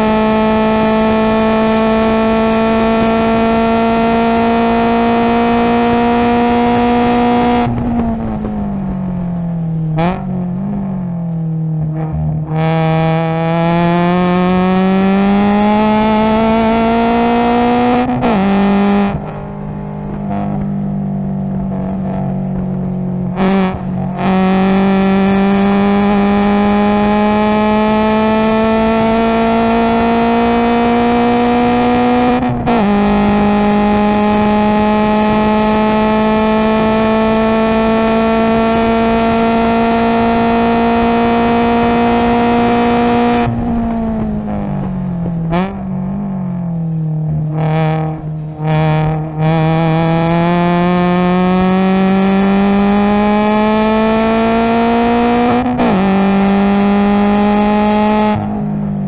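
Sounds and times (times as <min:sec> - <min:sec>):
engine throttle blips: 0:00.0 - 0:59.0
race car engine at full throttle: 0:00.0 - 0:59.0.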